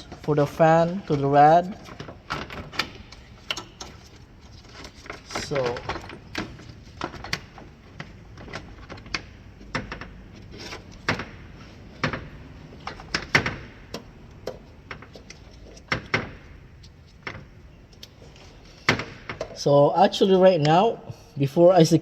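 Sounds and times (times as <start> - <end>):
knocks and clicks of fan assembly: 1.1 - 19.6.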